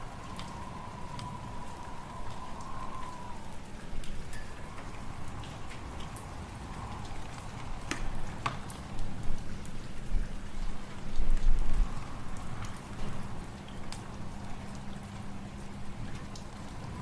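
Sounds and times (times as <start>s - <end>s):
fireplace fire crackling: 0.0s - 17.0s
low rumbling wind: 0.0s - 17.0s.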